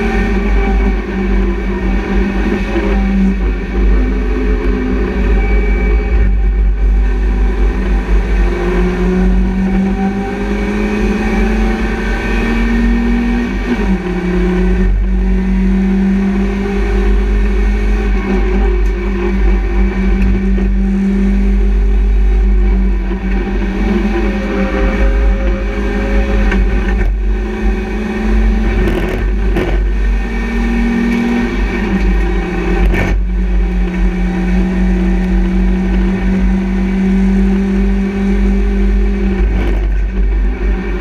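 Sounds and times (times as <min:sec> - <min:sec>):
race car engine accelerating: 0:00.0 - 0:41.0.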